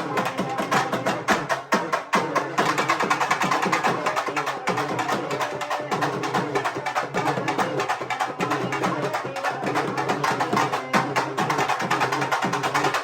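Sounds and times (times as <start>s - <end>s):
fast folk drum ensemble: 0.0s - 13.0s.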